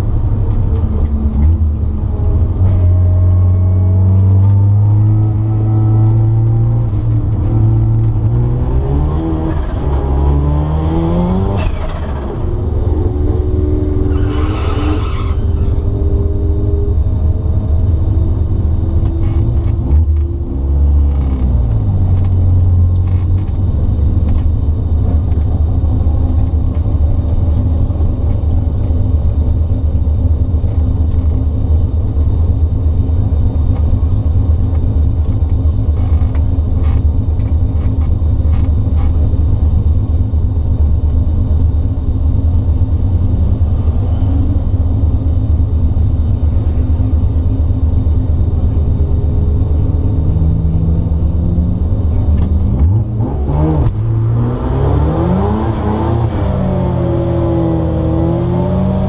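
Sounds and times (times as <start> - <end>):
rotary engine revving and idling: 0.0 - 40.2, 40.8 - 59.0.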